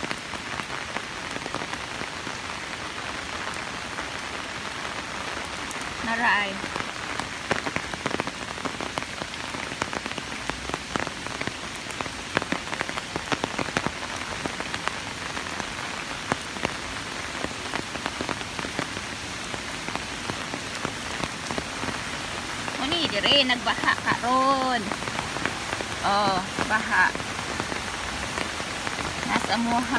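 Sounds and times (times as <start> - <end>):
heavy rain falling: 0.0 - 29.9
raindrops ticking close by: 0.0 - 29.9.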